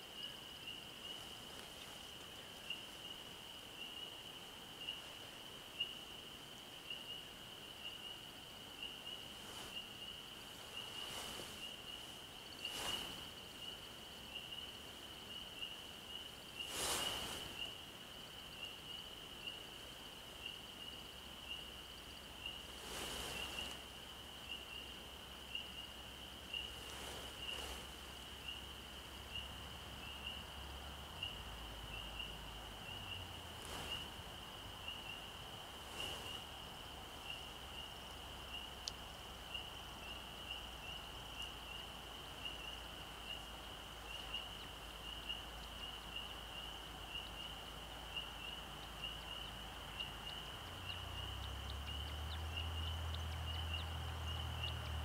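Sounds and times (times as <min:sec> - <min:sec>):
soft swells of noise: 0:00.0 - 0:55.0.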